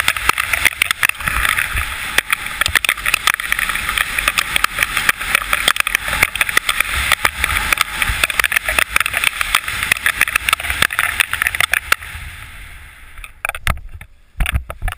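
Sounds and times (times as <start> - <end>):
wind buffeting microphone: 0.0 - 14.9
wind gust crackles: 0.0 - 14.9.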